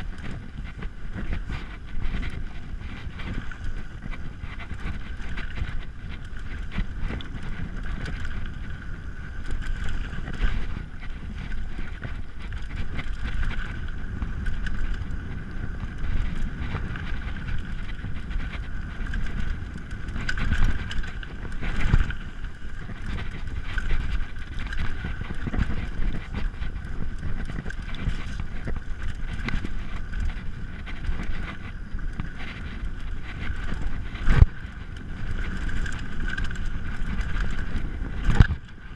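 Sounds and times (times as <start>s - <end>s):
bike rattling over bumps: 0.0s - 38.9s
bike tyres rolling on dirt: 0.0s - 38.9s
wind buffeting microphone: 0.0s - 38.9s.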